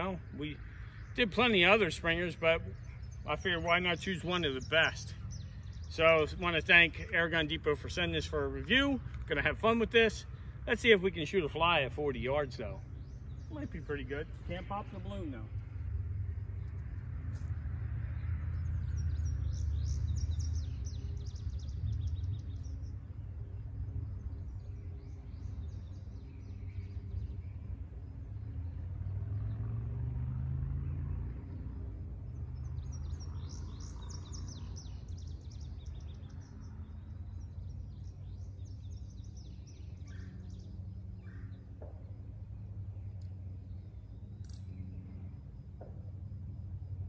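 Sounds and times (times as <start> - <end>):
low hum: 0.0 - 47.0
low outdoor rumble: 0.0 - 47.0
songbirds chirping: 0.0 - 47.0.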